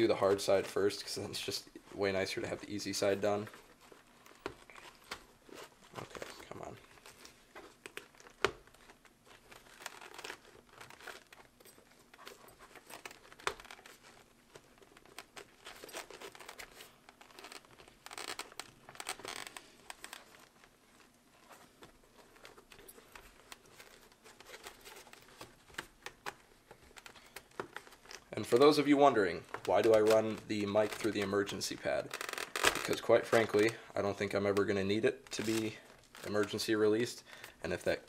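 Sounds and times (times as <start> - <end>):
padding rustling and crinkling: 0.0 - 38.0.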